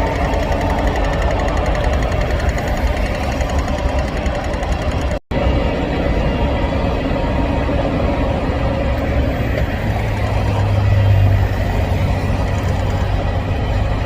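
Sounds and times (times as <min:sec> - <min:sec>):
locomotive engine rumbling: 0:00.0 - 0:14.0.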